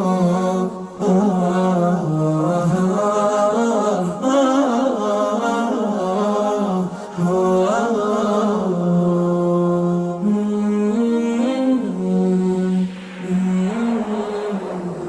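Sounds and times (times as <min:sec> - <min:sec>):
man singing unaccompanied: 0:00.0 - 0:14.8.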